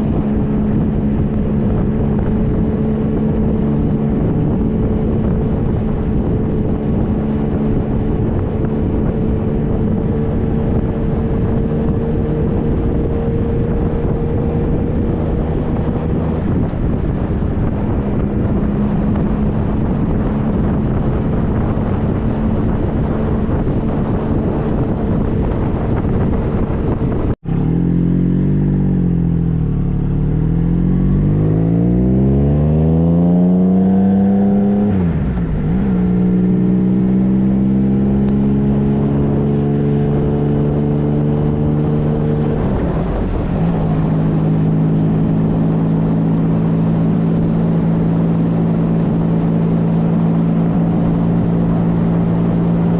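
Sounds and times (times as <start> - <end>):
motorcycle engine accelerating: 0.0 - 52.9
wind rushing over microphone: 0.0 - 52.9.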